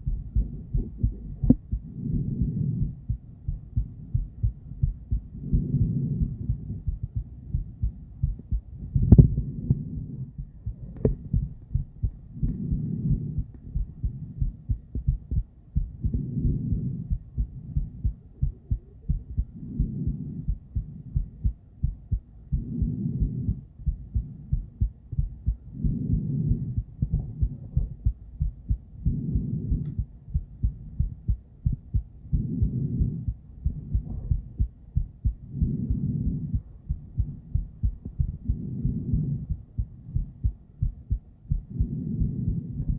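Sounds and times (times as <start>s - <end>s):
heartbeat thumps on doppler: 0.0s - 42.9s.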